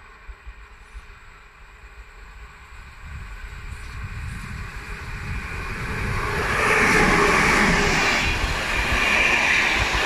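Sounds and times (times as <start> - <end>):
electric train rumbling: 0.0 - 10.0.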